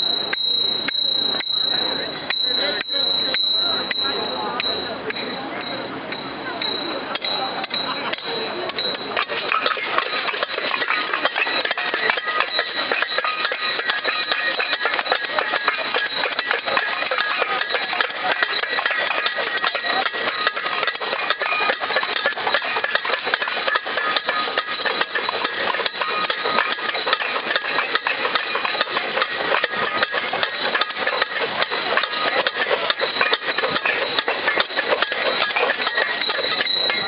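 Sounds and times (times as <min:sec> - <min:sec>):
objects banging clatter: 0:00.0 - 0:37.0
steady high ringing tones: 0:00.0 - 0:37.0.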